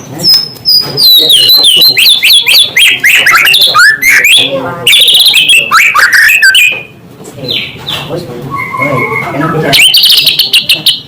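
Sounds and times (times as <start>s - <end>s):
bird singing varied whistles: 0.3s - 6.9s, 8.5s - 11.0s.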